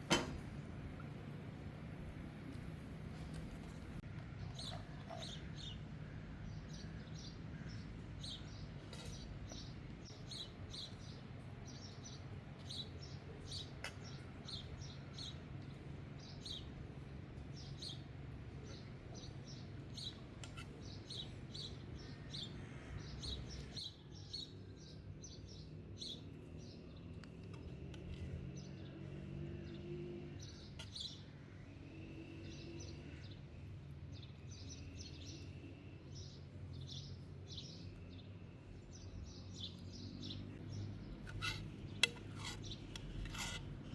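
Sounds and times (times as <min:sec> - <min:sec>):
small birds chirping: 0:03.2 - 0:43.9.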